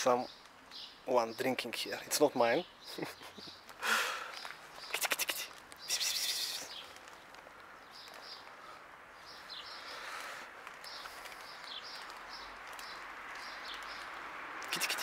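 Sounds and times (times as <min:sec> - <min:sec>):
outdoor background hiss: 0:00.0 - 0:15.0
small birds chirping: 0:00.0 - 0:15.0.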